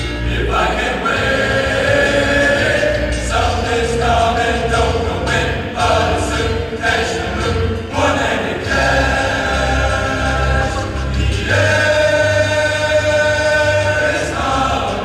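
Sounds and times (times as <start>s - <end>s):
men's choir singing held chords: 0.0s - 15.0s.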